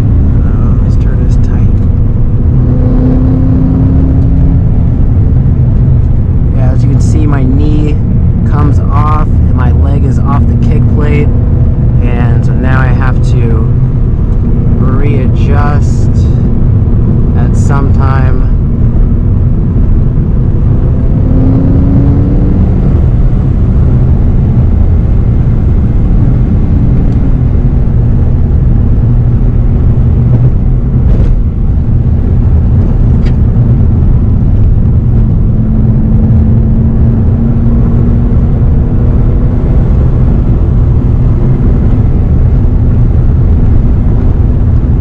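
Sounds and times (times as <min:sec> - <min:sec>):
car engine drone: 0:00.0 - 0:45.0
road noise: 0:00.0 - 0:45.0.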